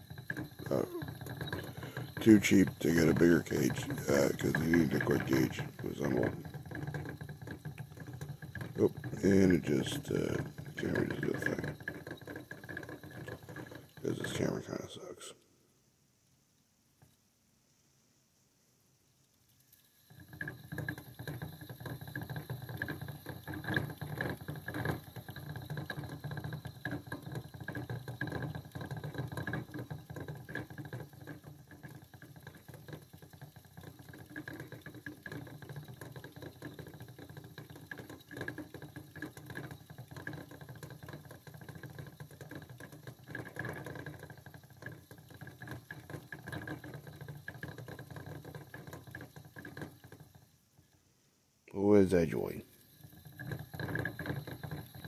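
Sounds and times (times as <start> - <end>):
hamster wheel rattling and whirring: 0.0 - 14.8, 19.4 - 50.9, 52.7 - 55.0.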